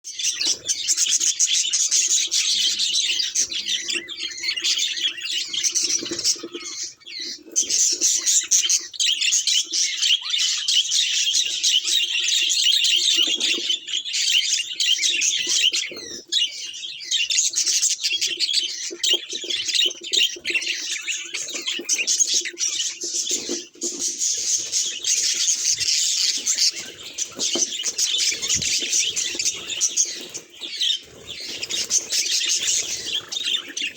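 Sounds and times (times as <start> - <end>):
budgerigars chirping: 0.1 - 33.9.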